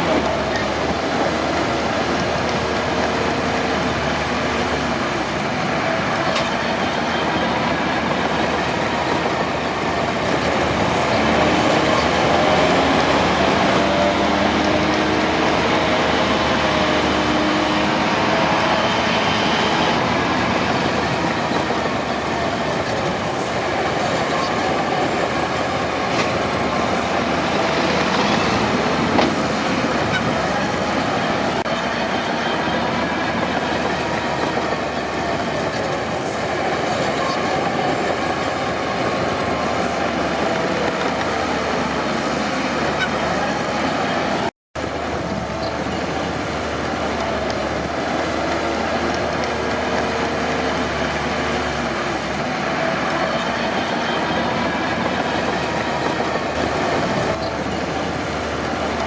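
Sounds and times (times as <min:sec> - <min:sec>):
bulldozer engine under load: 0:00.0 - 0:59.0
steel tracks clanking and squealing: 0:00.0 - 0:59.0.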